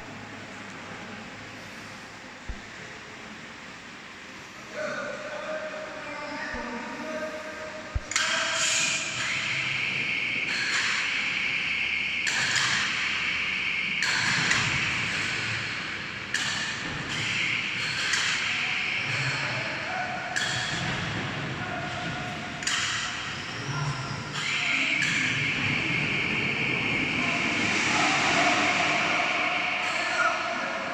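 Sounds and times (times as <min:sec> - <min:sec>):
steady machine noise: 0:05.8 - 0:30.9.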